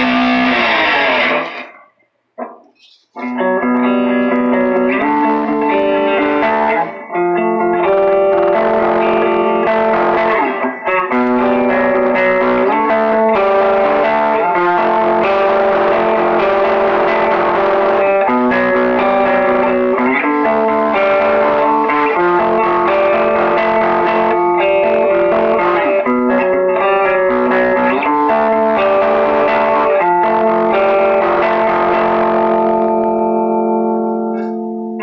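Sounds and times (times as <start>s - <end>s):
electric guitar chords: 0.0s - 1.8s, 2.4s - 35.0s.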